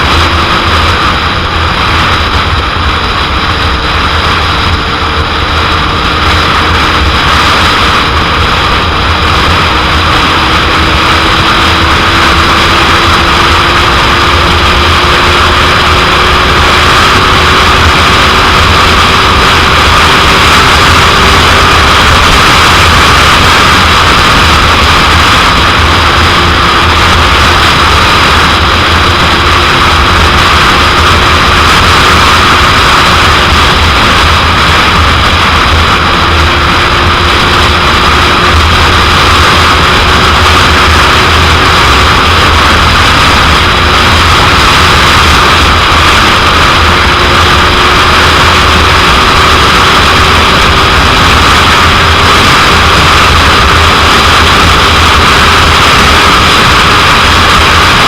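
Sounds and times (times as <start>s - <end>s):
faint motorcycle engine: 0.0s - 58.0s
wind battering microphone: 0.0s - 58.0s.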